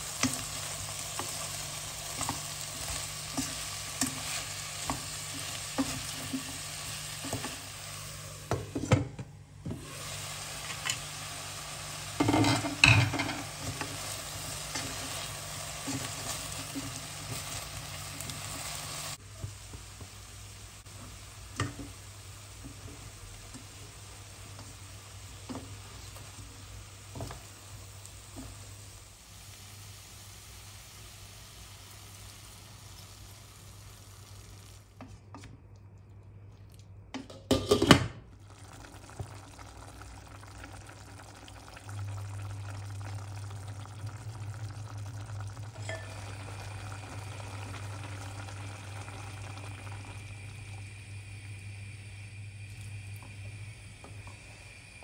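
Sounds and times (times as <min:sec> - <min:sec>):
vegetables sizzling in oil: 0:00.0 - 0:08.8, 0:09.6 - 0:35.1, 0:38.4 - 0:55.0
pot simmering: 0:00.0 - 0:55.0.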